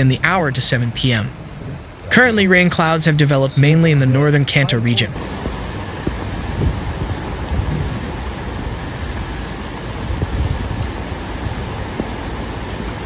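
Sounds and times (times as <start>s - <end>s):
heavy rain hissing: 0.0s - 13.0s
rushing floodwater: 0.0s - 13.0s
vehicles driving through water: 0.0s - 13.0s.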